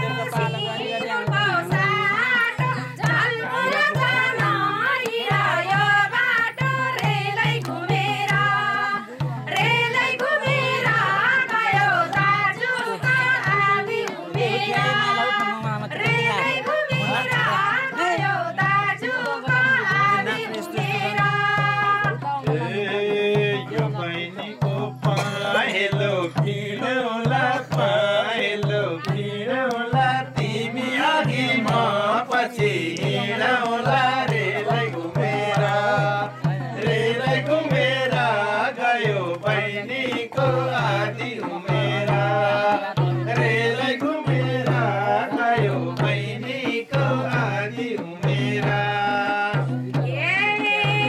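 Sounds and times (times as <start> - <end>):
hand drum beat: 0.0 - 51.0
person singing folk melody: 0.0 - 51.0.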